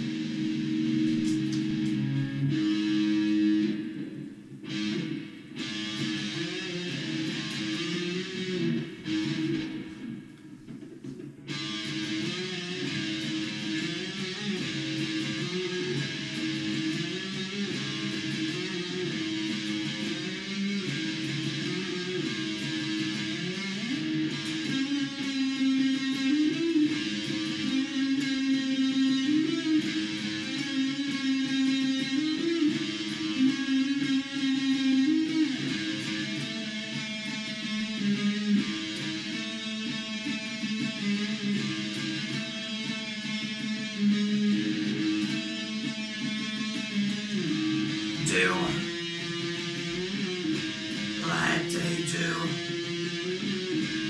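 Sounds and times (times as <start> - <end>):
electric guitar rock riff: 0.0 - 54.0.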